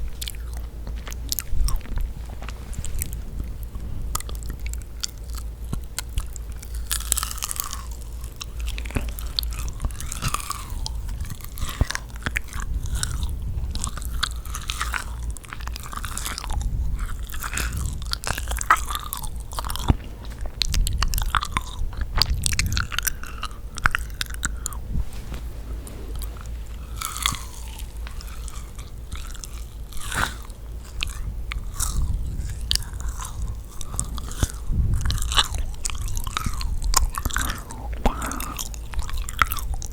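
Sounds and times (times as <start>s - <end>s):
chewy cookie chewing: 0.0s - 39.9s
wet sticky mouth sounds: 0.0s - 39.9s.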